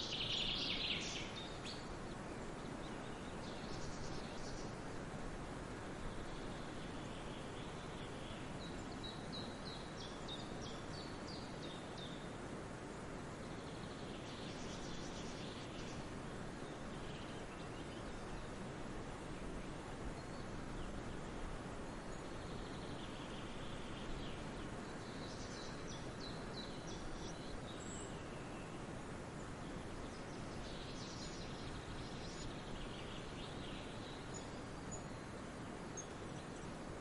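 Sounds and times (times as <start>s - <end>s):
small birds chirping: 0.0s - 5.0s, 5.6s - 37.0s
steady background hiss: 0.0s - 37.0s.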